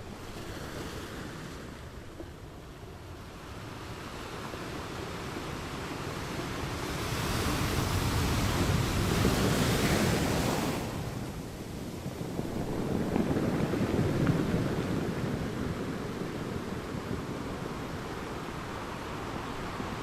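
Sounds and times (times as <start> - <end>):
ocean waves on a beach: 0.0 - 20.0.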